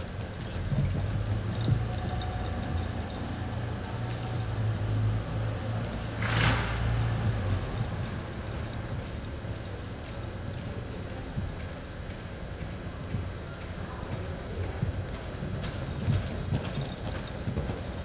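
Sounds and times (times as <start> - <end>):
muffled hoofbeats on dirt: 0.1 - 4.9, 5.7 - 18.0.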